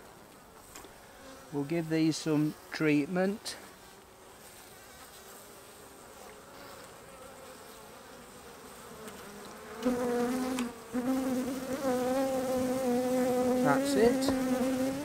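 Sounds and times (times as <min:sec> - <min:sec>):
bees buzzing: 0:00.9 - 0:15.0.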